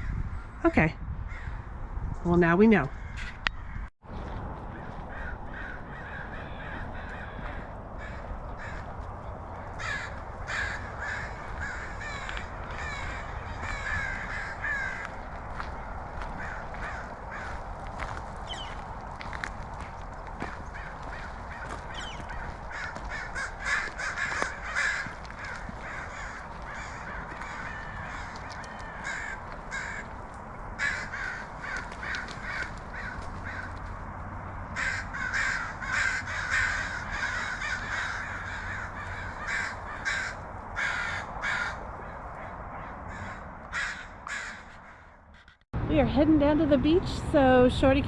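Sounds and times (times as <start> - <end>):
crows cawing: 1.3 - 1.6, 2.9 - 3.9, 4.7 - 45.6.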